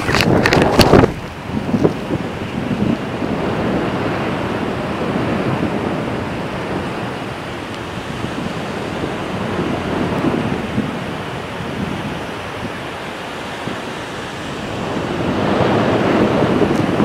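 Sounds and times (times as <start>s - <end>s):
surf breaking: 0.0s - 17.0s
wind buffeting microphone: 0.0s - 17.0s.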